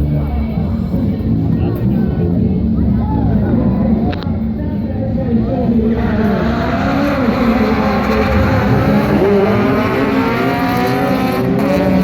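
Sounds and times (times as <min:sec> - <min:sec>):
car engines accelerating hard: 0:00.0 - 0:12.0.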